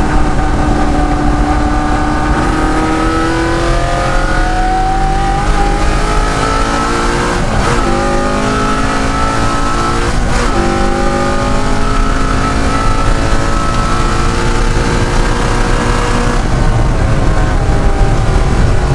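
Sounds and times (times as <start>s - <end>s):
race car engine accelerating: 0.0s - 18.9s.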